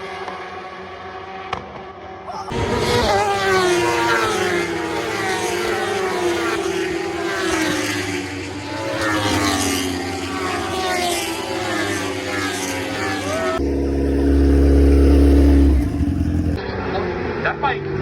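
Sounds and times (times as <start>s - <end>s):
racing motorcycles passing: 0.0s - 17.4s.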